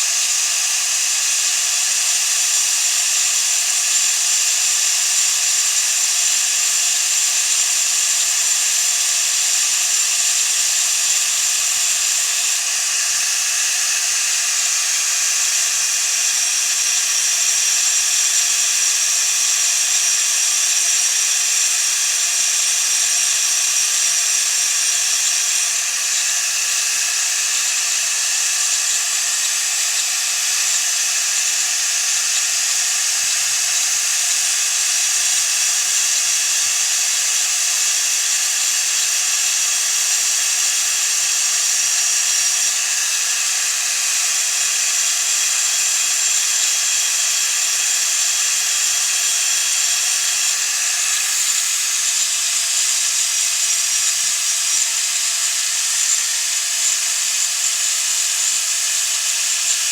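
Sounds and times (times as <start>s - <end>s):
high-speed power tool whine: 0.0s - 59.9s.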